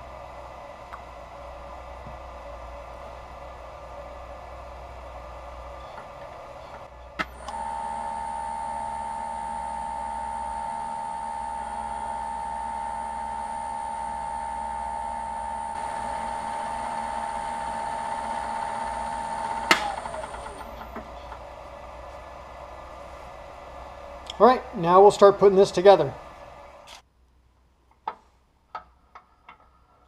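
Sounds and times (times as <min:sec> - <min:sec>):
wood lathe whining: 0:00.0 - 0:27.0.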